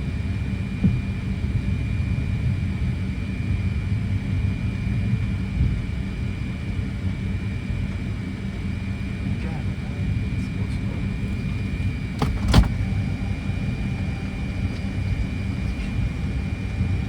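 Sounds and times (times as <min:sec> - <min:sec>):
jet engines idling rumble: 0:00.0 - 0:17.0.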